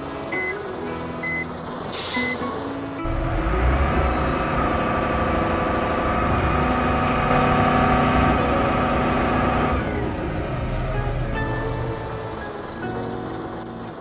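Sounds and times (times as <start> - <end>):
truck engine idling: 1.3 - 14.0.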